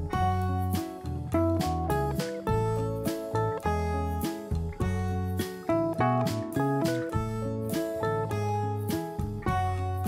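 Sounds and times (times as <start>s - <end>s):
plucked guitar: 0.0s - 10.0s
steady bass line: 0.0s - 10.0s.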